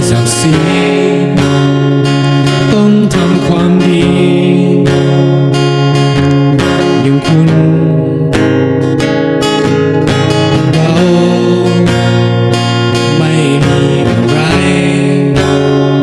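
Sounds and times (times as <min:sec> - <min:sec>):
strummed acoustic guitar song: 0:00.0 - 0:16.0.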